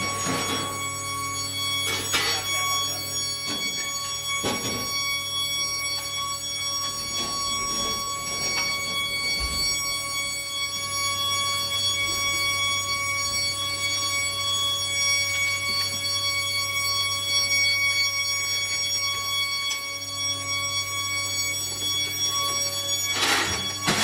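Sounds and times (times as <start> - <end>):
machinery high-pitched whine: 0.0 - 24.0.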